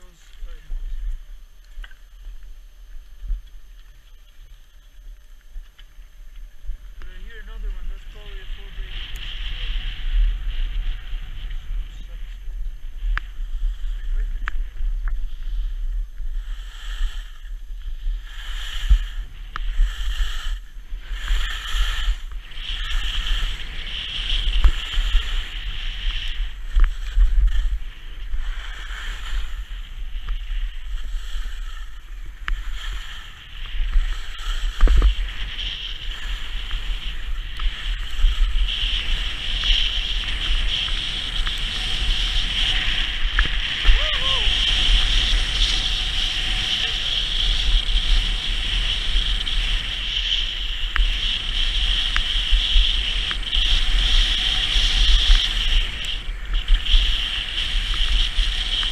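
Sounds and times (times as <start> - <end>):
wind rumble on microphone: 0.0 - 58.9
skis carving on snow: 3.2 - 58.9.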